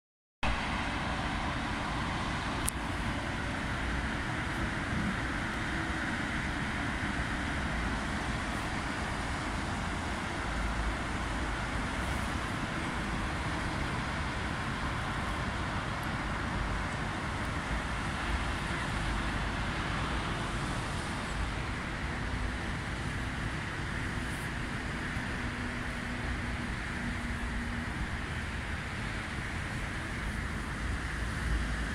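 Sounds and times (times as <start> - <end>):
road traffic hum: 0.4 - 31.9.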